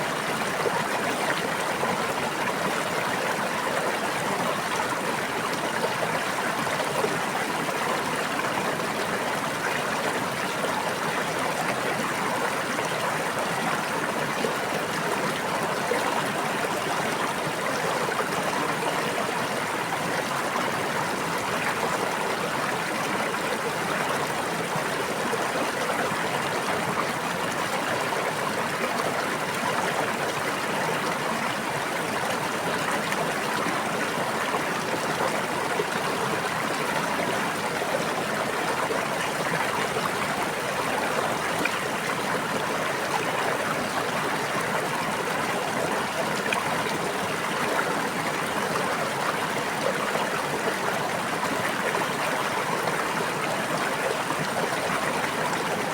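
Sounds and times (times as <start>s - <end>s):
water flowing in a stream: 0.0s - 55.9s.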